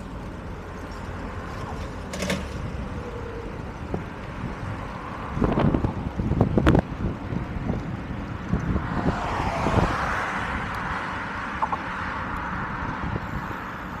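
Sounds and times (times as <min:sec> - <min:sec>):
wind rumble on microphone: 0:00.0 - 0:14.0
car passing with whoosh: 0:01.3 - 0:14.0.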